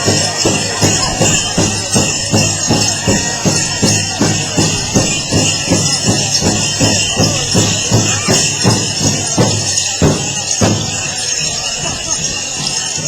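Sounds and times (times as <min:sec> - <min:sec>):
bright continuous jingling: 0:00.0 - 0:13.0
large drum steady beat: 0:00.0 - 0:13.0.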